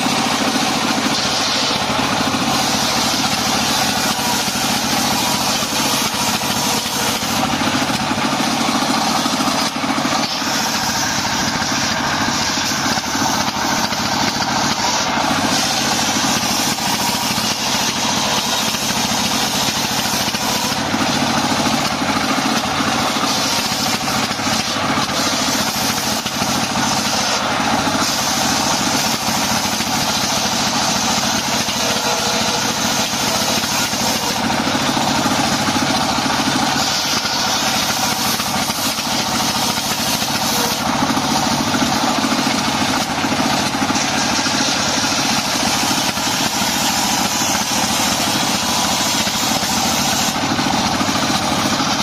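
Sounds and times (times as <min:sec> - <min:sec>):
circular saw blade spinning: 0:00.0 - 0:52.0
diesel engine running: 0:00.0 - 0:52.0.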